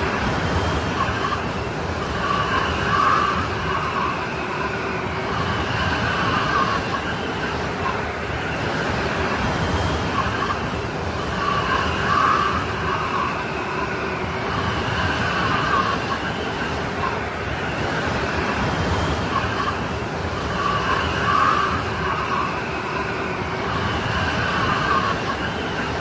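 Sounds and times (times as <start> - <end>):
howling snowstorm wind: 0.0 - 26.0.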